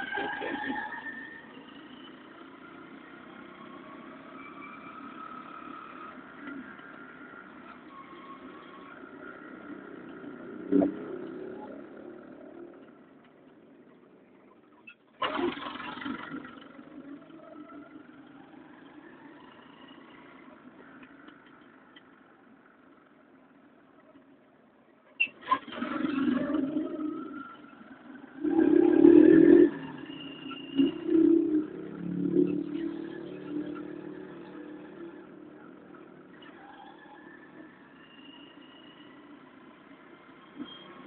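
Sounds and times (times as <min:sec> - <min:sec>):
motor vehicle running: 0:00.0 - 0:41.0.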